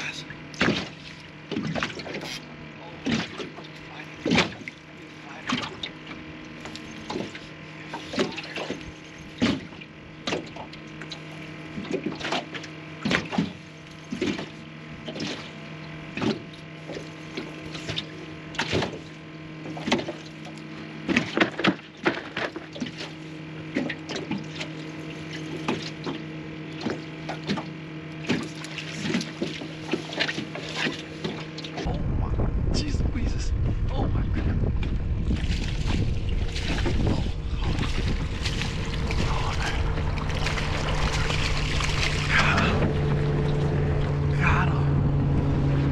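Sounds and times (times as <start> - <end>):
water slapping boat hull: 0.0 - 32.8, 33.6 - 45.9
steady low hum: 0.0 - 45.9.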